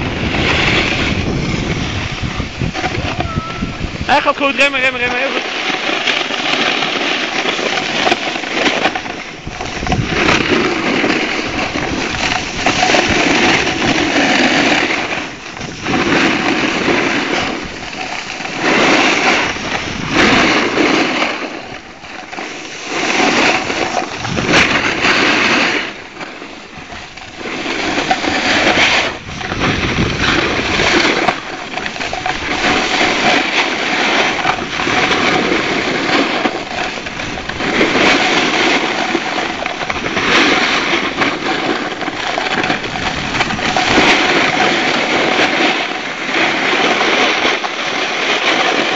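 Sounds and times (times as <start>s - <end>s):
ski edges scraping snow: 0.0s - 48.9s.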